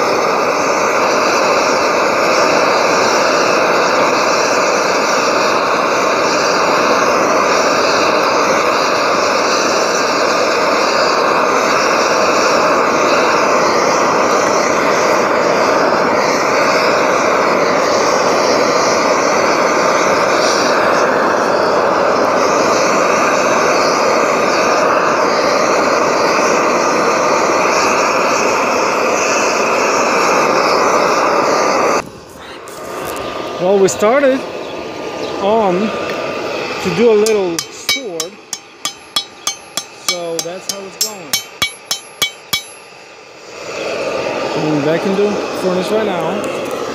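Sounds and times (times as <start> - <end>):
propane burner rushing: 0.0 - 46.9.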